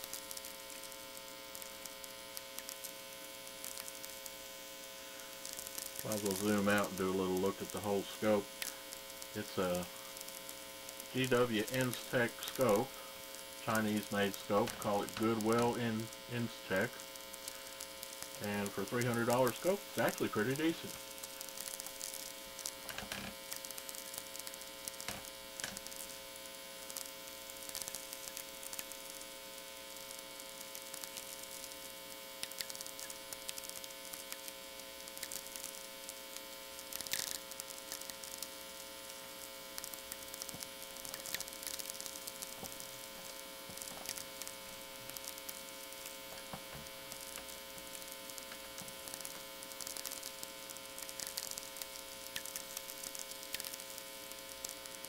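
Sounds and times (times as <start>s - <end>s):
mains hum: 0.0s - 55.0s
radio static clicks and pops: 0.0s - 55.0s.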